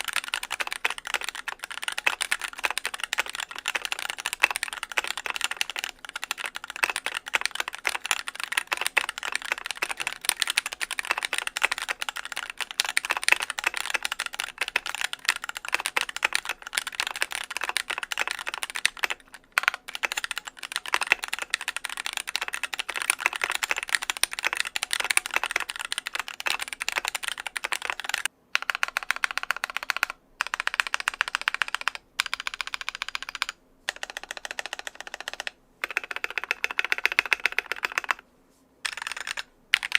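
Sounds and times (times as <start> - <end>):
mechanical keyboard typing: 0.0 - 38.2, 38.8 - 39.9.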